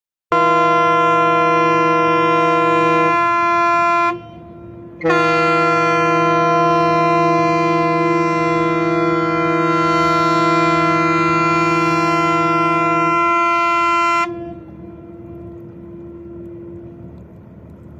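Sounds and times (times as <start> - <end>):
ship's horn blasts: 0.3 - 17.9.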